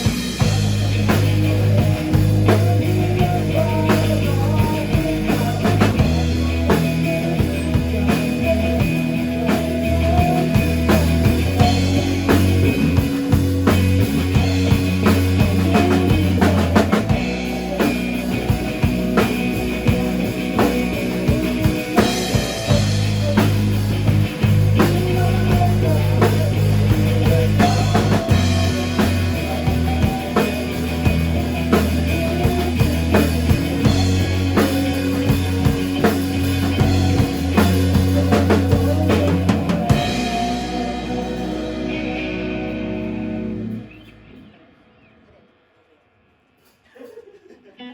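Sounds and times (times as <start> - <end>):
drum kit beat: 0.0 - 44.0
bass line: 0.0 - 44.5
rock music: 0.0 - 45.6.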